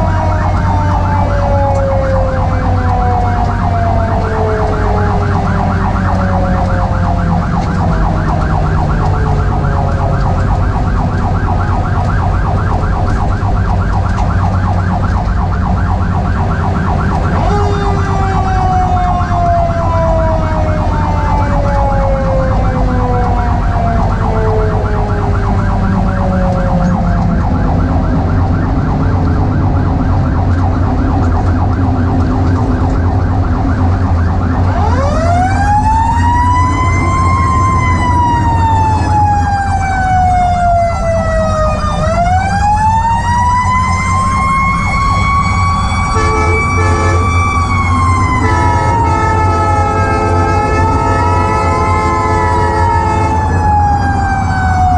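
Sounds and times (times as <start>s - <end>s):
diesel engine drone: 0.0s - 54.9s
fast-cycling electronic siren: 0.0s - 54.9s.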